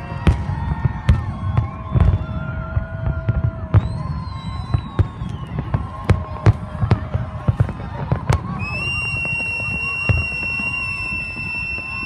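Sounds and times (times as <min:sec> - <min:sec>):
fireworks bangs: 0:00.0 - 0:12.0
high whistling fireworks: 0:00.0 - 0:12.0.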